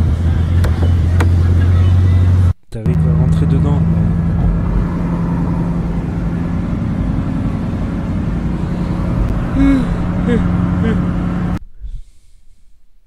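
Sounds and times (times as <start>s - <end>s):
car engine humming inside cabin: 0.0s - 11.8s.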